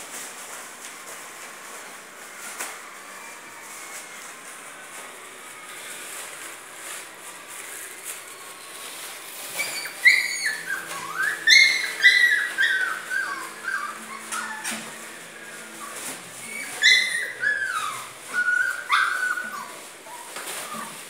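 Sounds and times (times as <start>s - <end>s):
puppies whining: 1.1s - 21.0s.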